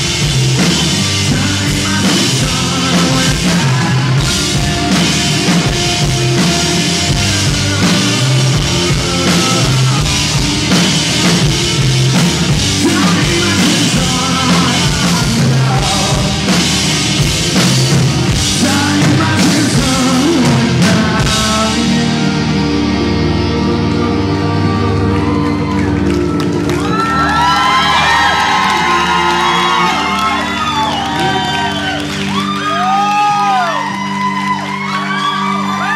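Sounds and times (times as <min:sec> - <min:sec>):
drum kit: 0:00.0 - 0:35.9
electric guitars: 0:00.0 - 0:35.9.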